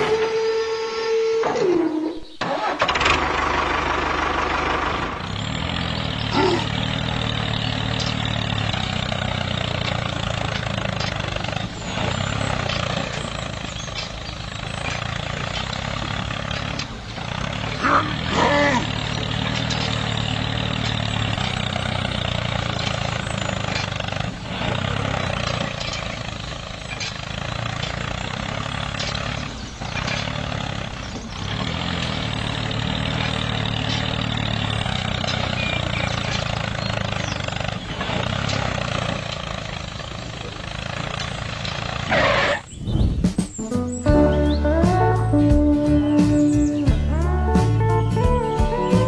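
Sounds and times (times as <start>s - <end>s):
small tractor motor running: 0.0s - 42.9s.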